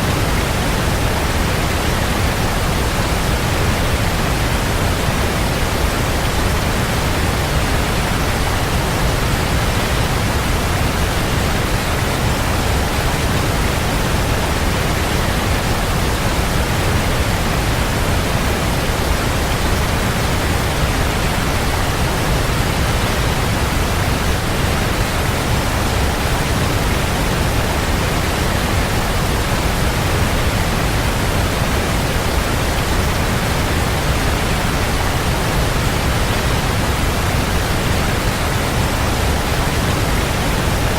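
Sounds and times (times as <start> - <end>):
waterfall rushing and splashing: 0.0 - 40.9.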